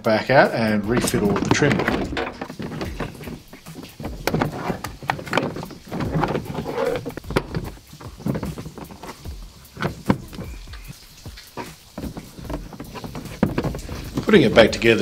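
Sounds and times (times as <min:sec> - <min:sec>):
hard plastic knocks and clicks: 0:00.8 - 0:14.8.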